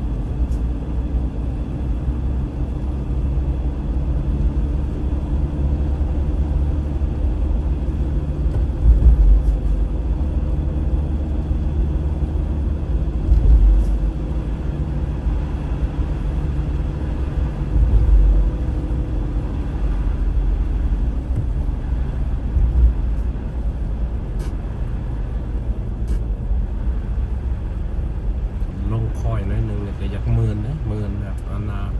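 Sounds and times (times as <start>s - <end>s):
car road noise from inside: 0.0s - 31.9s.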